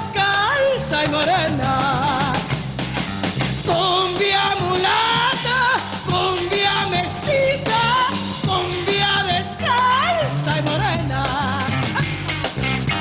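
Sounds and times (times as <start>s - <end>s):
woman singing with vibrato: 0.0s - 2.5s, 3.6s - 12.2s
band with drums and guitar: 0.0s - 13.0s
steady bass line: 0.0s - 13.0s.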